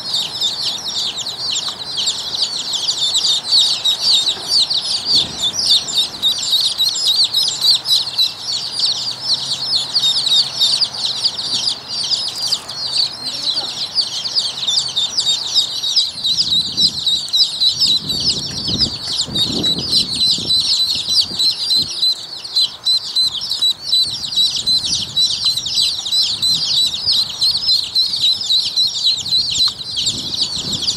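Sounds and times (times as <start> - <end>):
ducklings peeping: 0.0 - 30.9.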